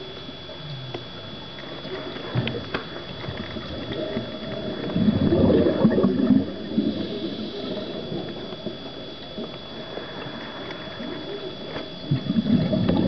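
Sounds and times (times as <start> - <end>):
thin high whine: 0.0 - 13.0
underwater regulator bubbles gurgling: 0.0 - 13.0.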